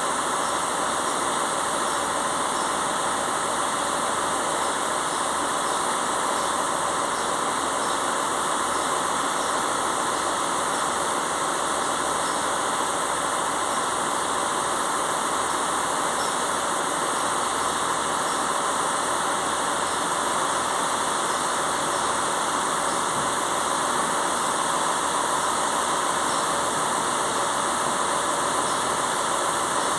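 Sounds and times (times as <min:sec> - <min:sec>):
train diesel engines running: 0:00.0 - 0:29.9.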